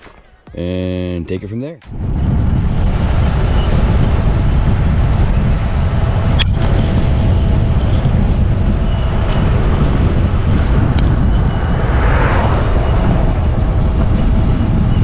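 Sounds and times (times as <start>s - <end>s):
wind rumble on microphone: 1.9s - 15.0s
pickup truck passing: 2.1s - 15.0s.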